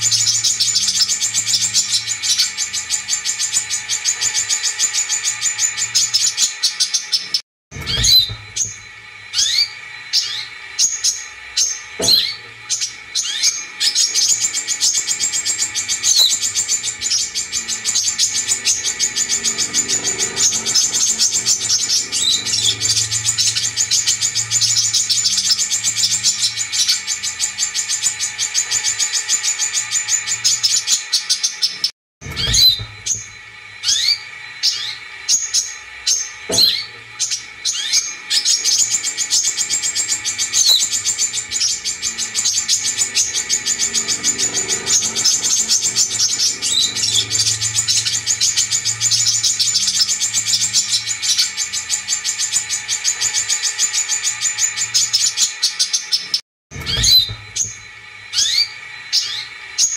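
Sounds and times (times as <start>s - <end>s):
bird chattering trill: 0.0s - 59.9s
sharp downward-sliding bird chirps: 0.0s - 59.9s.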